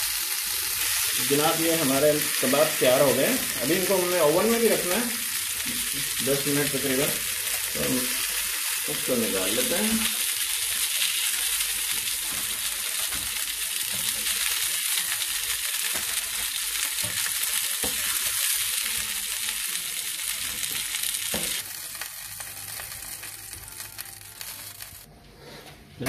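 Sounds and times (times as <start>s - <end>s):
kebabs sizzling in hot oil: 0.0s - 25.1s.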